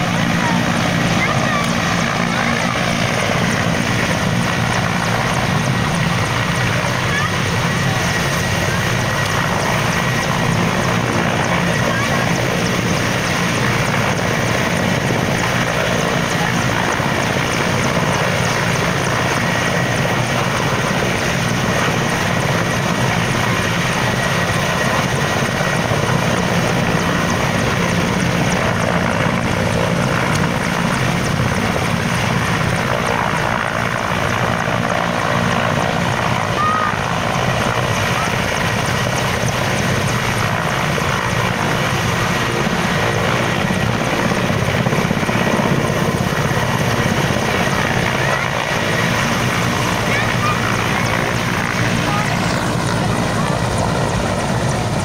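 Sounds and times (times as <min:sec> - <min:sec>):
helicopter rotor and engine noise: 0:00.0 - 0:55.0.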